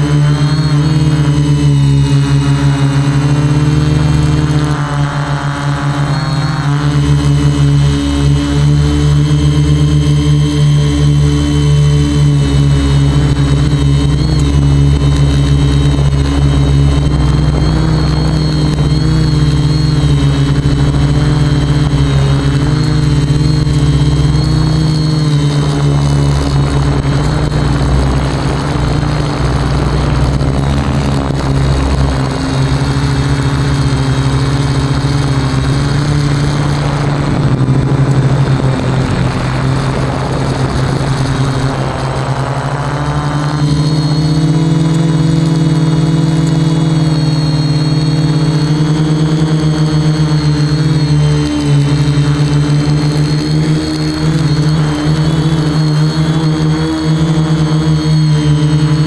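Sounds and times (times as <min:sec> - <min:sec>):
quadcopter propellers whirring: 0:00.0 - 0:59.0.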